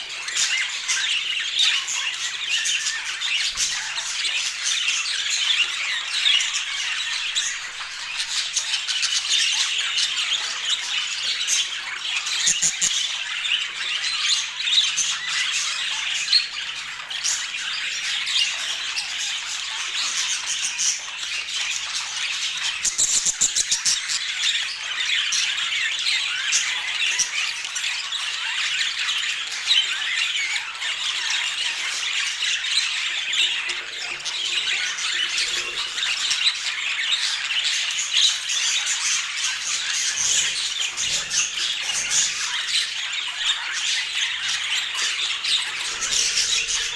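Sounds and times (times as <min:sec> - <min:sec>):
budgerigars chattering and warbling: 0:00.0 - 0:46.9.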